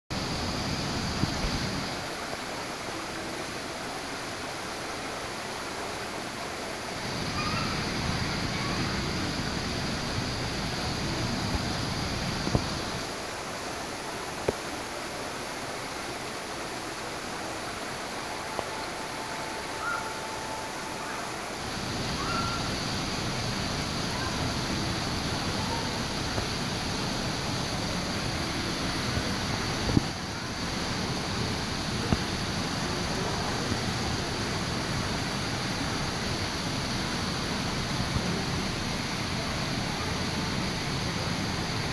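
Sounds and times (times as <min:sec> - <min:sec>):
waterfall pouring into a pool: 0:00.1 - 0:41.9.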